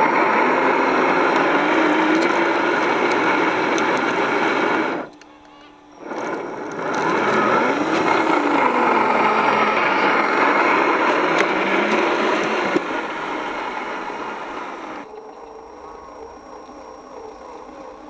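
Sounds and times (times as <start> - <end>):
electric motor and gears whining: 0.0 - 18.0.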